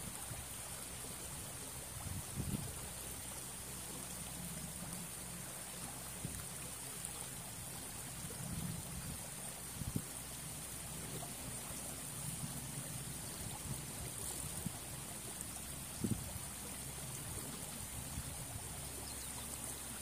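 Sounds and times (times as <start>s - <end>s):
stream trickling over stones: 0.0s - 20.0s.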